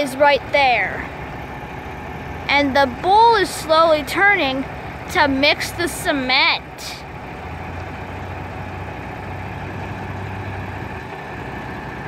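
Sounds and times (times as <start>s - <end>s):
concrete mixer truck running: 0.0s - 12.0s.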